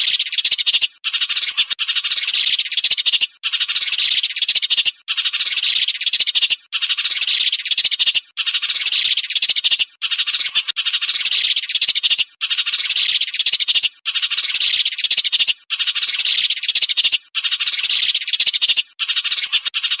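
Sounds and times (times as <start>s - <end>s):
recorded sparrow chirping: 0.0s - 20.0s.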